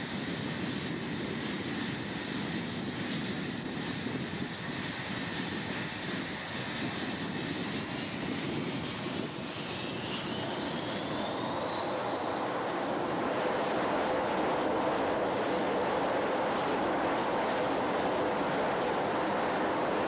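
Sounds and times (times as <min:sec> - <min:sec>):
jet engine whine and rush: 0:00.0 - 0:20.0.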